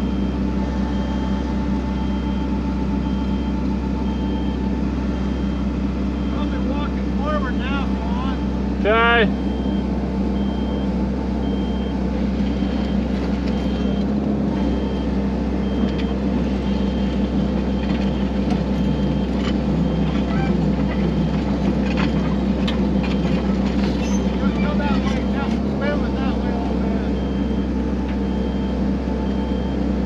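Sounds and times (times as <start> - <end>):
travel alarm beeping: 0.0 - 21.4, 24.2 - 30.0
excavator diesel engine running: 0.0 - 30.0.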